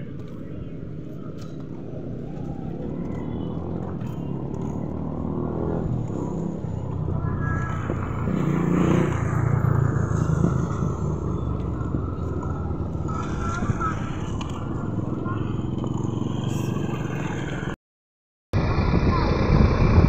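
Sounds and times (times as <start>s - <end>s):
small motorcycle engines running: 0.2s - 17.8s, 18.6s - 20.0s.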